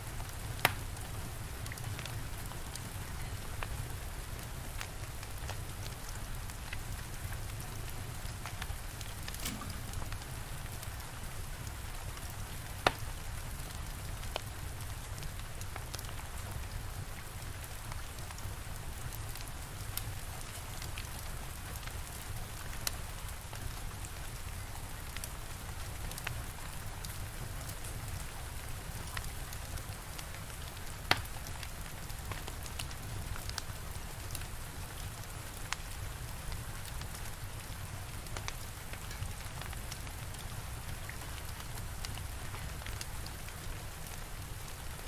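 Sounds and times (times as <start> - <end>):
steady rain: 0.0 - 45.0
fire crackling and popping: 0.1 - 45.0.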